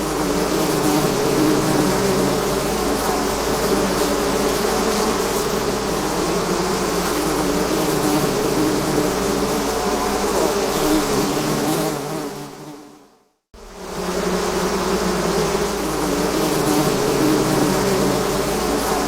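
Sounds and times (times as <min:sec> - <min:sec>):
bees buzzing: 0:00.0 - 0:13.0, 0:13.6 - 0:19.0.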